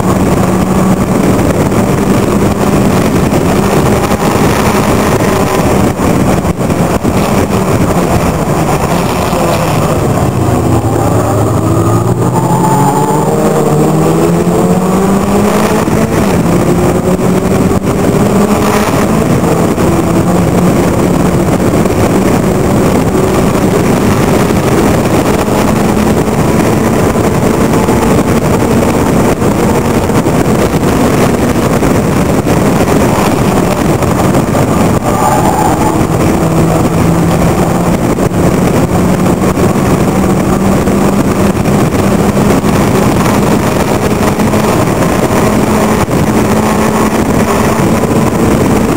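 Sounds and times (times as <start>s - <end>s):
race car engine revving: 0.0s - 48.9s
wind noise: 0.0s - 48.9s.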